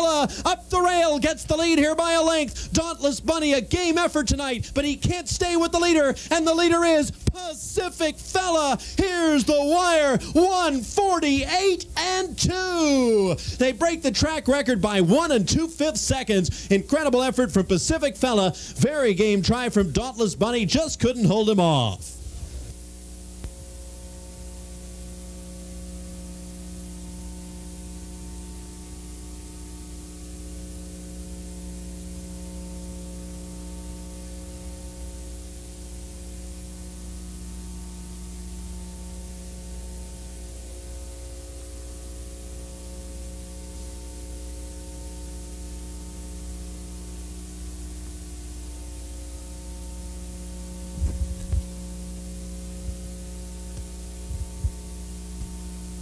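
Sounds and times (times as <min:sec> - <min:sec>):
electrical hum: 0:00.0 - 0:56.0
static hiss: 0:00.0 - 0:56.0.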